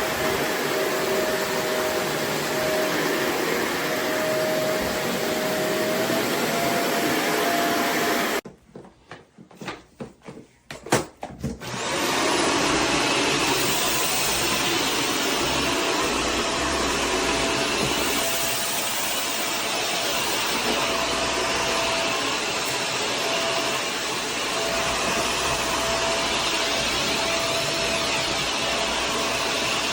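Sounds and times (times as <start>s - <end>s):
upright vacuum motor whine: 0.0s - 8.4s, 11.6s - 29.9s.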